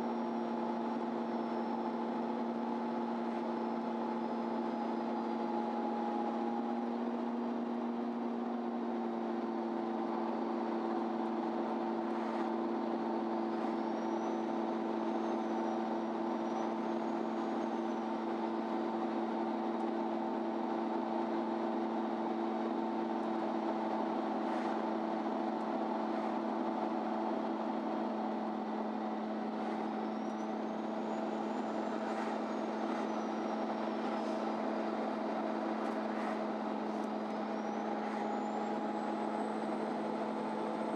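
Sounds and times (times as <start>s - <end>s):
bus engine drone from inside: 0.0s - 40.9s
faint high whine: 0.0s - 40.9s.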